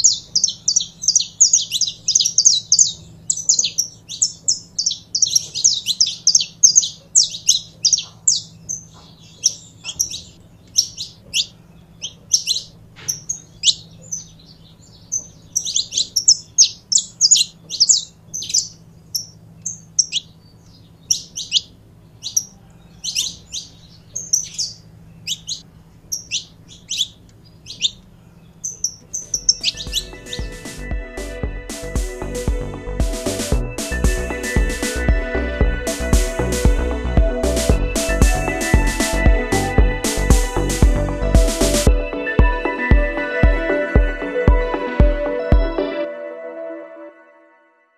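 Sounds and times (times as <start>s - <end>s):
finch singing high chirps and trills: 0.0s - 42.9s.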